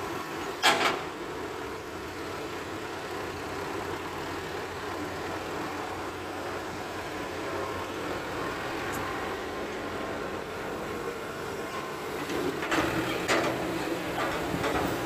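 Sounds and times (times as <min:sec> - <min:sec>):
diesel engines running: 0:00.0 - 0:15.0
dump truck moving: 0:00.0 - 0:15.0.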